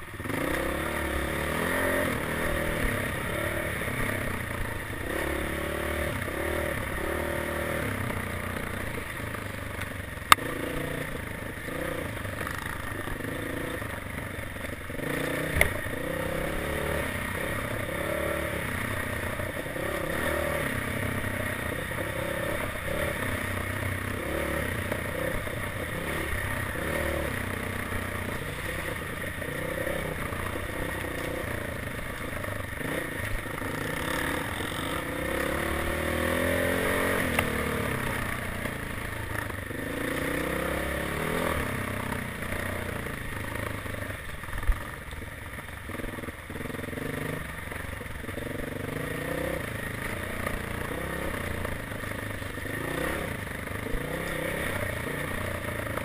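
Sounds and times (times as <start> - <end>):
dirt bike engine revving: 0.0 - 44.3, 45.8 - 56.0.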